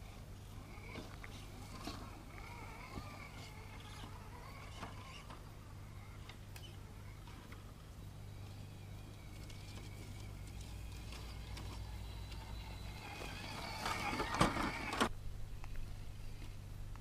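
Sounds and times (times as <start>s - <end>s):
rc car motor whining: 0.0s - 16.6s
rc truck crunching over rocks: 0.0s - 16.6s.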